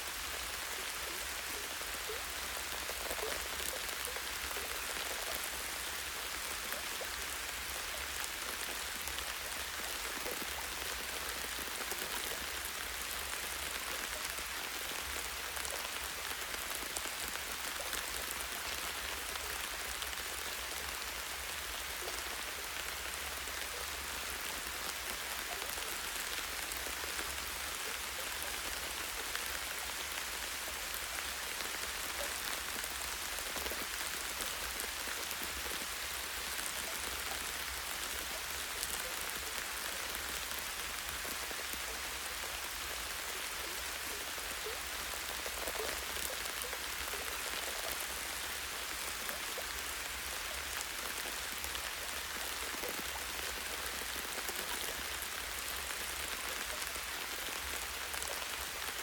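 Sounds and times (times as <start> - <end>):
rain pattering on a branch: 0.0 - 59.0.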